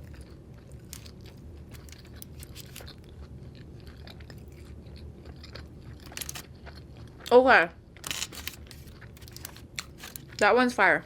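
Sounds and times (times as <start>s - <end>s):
close-up chewing: 0.0s - 10.4s.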